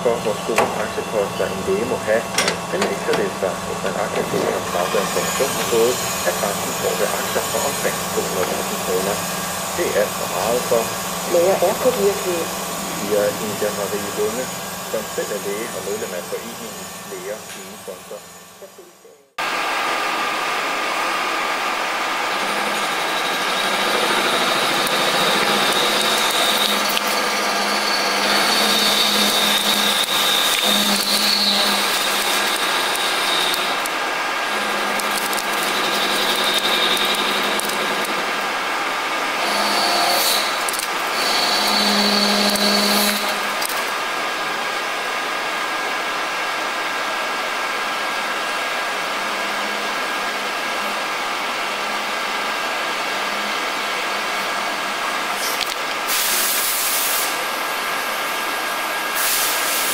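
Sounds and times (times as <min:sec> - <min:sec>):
high machining whine: 0:00.0 - 0:59.9
lathe machining whir: 0:00.0 - 0:59.9.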